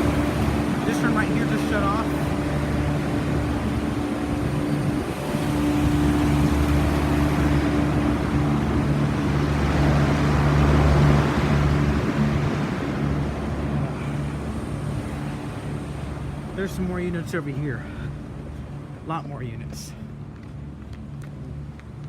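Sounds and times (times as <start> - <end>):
condenser fans rushing air: 0.0 - 19.9
compressor hum: 0.0 - 22.0.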